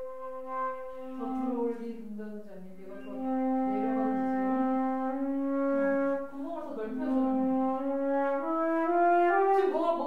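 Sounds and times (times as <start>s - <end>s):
flute sustained low note: 0.0s - 2.0s, 2.8s - 10.0s.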